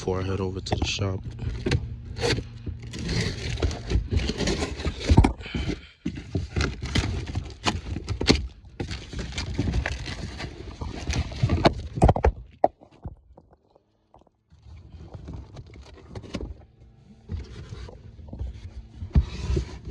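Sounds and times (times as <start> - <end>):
knocks and scrapes handling a box: 0.3 - 19.9.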